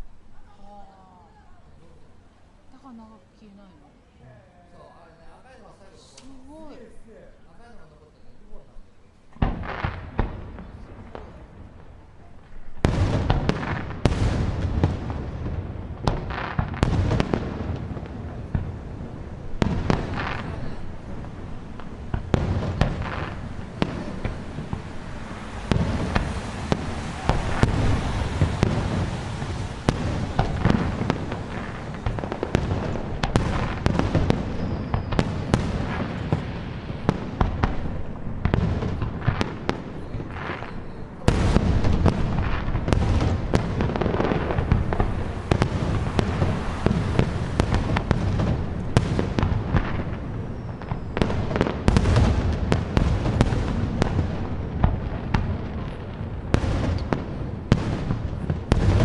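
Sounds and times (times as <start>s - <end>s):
fireworks bursting and crackling: 5.4s - 59.0s.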